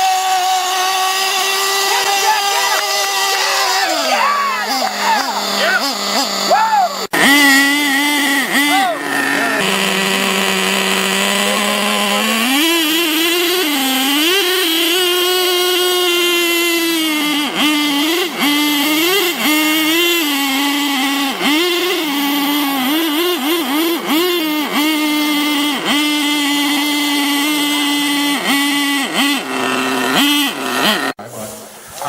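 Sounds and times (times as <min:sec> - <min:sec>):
toy truck motors droning: 0:00.0 - 0:31.2.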